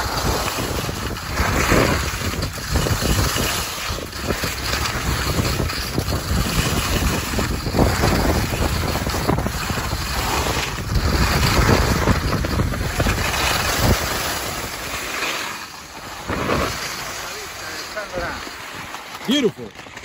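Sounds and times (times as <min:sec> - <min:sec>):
wind rushing over microphone: 0:00.0 - 0:18.6
skis scraping on hard snow: 0:00.0 - 0:20.0.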